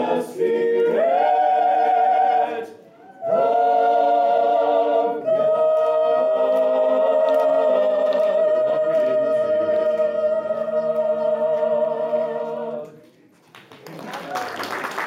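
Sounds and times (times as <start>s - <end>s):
choir holding a chord: 0.0s - 12.9s.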